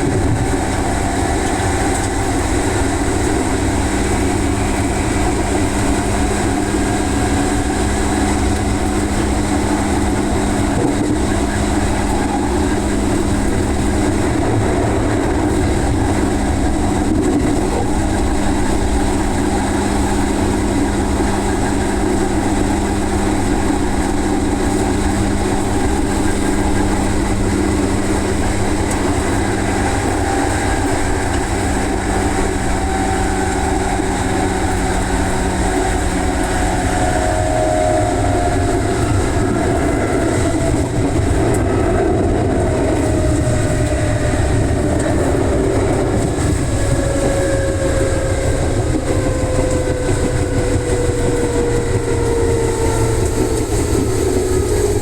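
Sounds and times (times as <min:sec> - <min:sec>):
traction motor whine: 0:00.0 - 0:55.0
train wheels rumbling on rails: 0:00.0 - 0:55.0.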